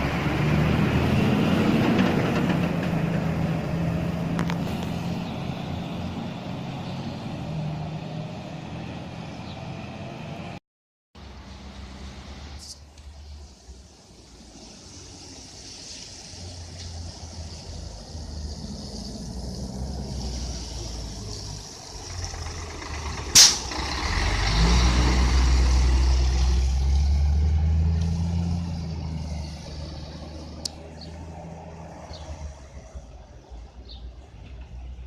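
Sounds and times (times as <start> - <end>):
fire truck diesel engine: 0.0 - 10.6, 14.6 - 34.6.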